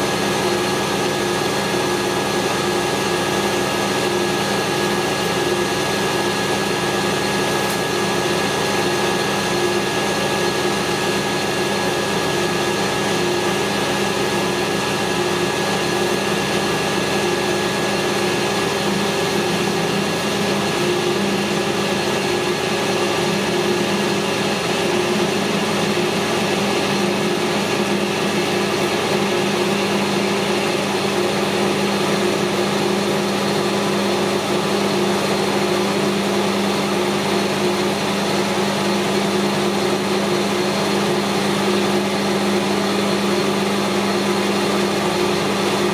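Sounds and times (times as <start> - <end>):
metal lathe humming: 0.0 - 45.9.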